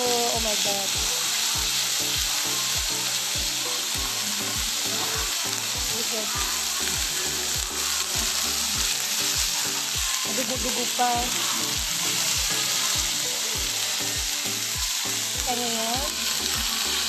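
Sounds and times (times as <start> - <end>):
steak sizzling on hot iron: 0.0 - 17.0
music with thudding beat: 0.4 - 16.8.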